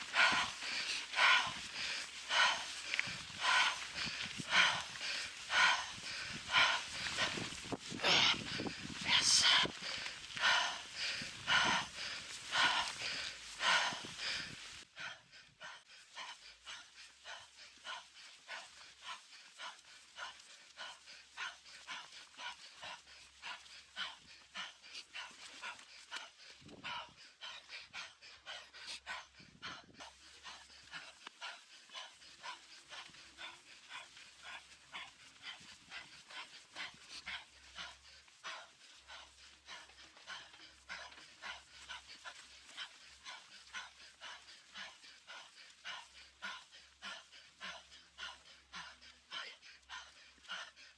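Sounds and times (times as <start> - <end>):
person panting hard: 0.0 - 50.9.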